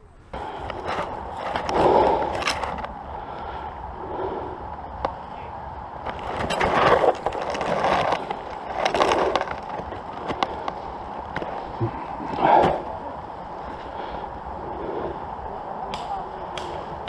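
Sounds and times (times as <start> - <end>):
rough rustling and scraping: 0.0 - 17.0.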